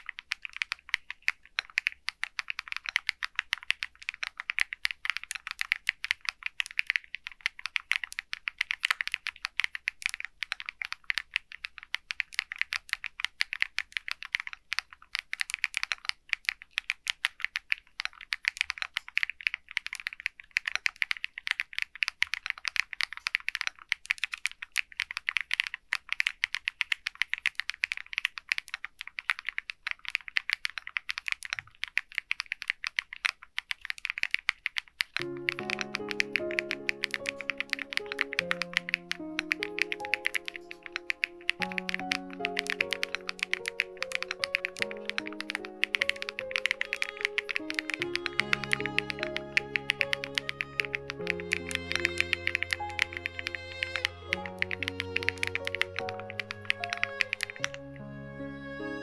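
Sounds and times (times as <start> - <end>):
fast typing on mechanical keyboard: 0.0 - 57.8.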